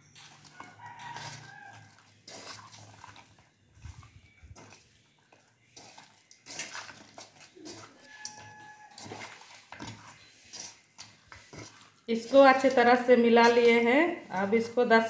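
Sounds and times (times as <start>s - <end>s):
wet squelching and rustling: 0.2s - 15.0s.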